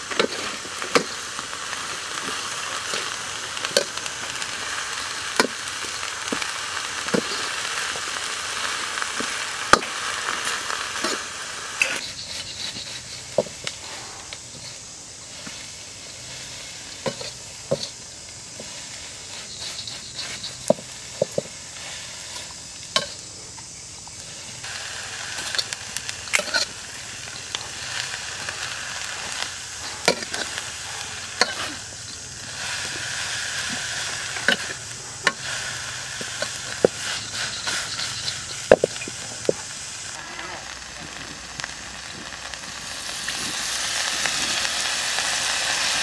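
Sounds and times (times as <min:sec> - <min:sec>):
food sizzling in a wok: 0:00.0 - 0:46.0.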